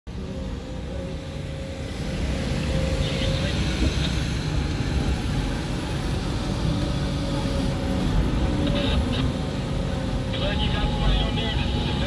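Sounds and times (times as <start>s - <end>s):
diesel engine running under load: 0.1s - 12.0s
faint steady whine: 0.1s - 12.0s.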